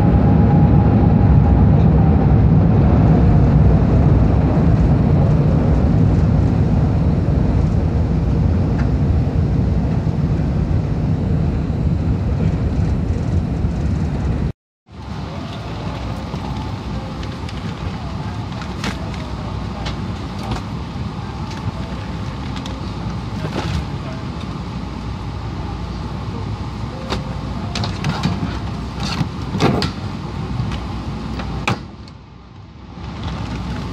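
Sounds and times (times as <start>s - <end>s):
aircraft cabin engine drone: 0.0s - 33.9s.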